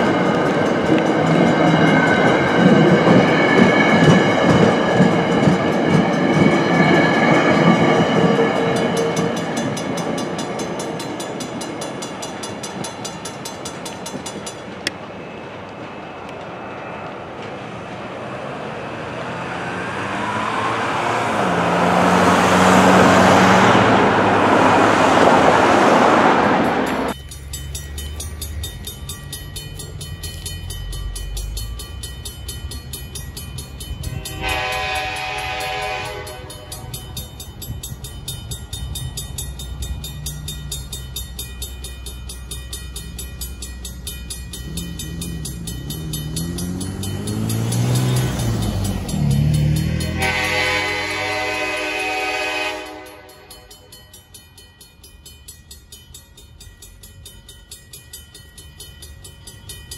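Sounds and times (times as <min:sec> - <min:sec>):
crossing bell ringing: 0:00.0 - 0:59.9
train coaches rolling past: 0:00.0 - 0:59.9.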